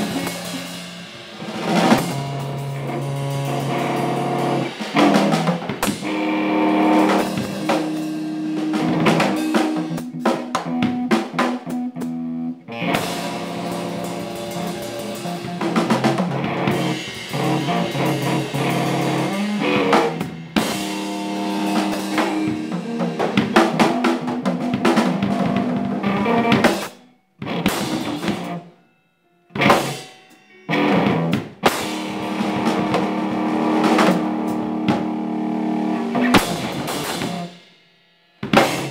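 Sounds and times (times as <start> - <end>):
guitar: 0.0 - 37.6, 38.4 - 38.9
drum kit: 0.0 - 38.9.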